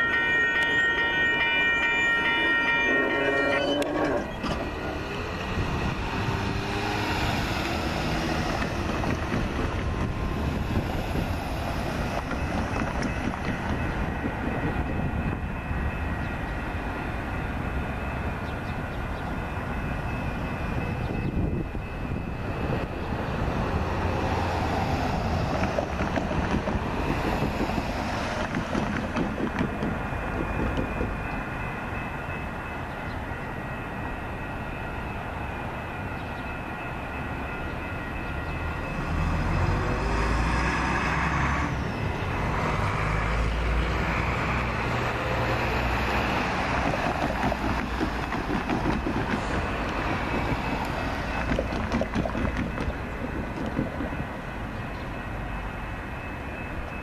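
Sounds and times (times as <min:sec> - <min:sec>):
crossing bell ringing: 0:00.0 - 0:57.0.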